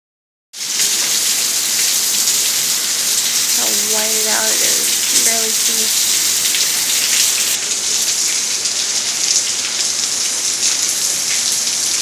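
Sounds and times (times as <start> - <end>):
heavy rain pouring: 0.6 - 12.0.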